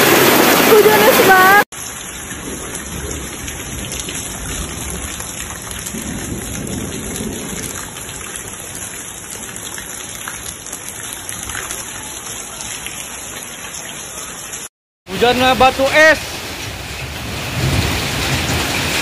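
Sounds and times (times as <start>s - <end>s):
hail and rain pelting down: 0.0s - 14.3s, 15.1s - 19.0s.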